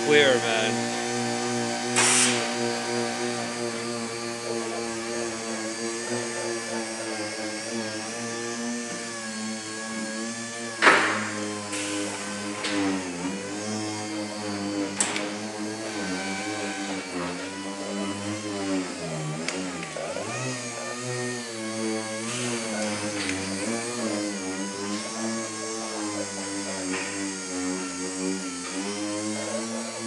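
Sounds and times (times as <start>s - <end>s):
rotary polisher motor: 0.0s - 30.0s.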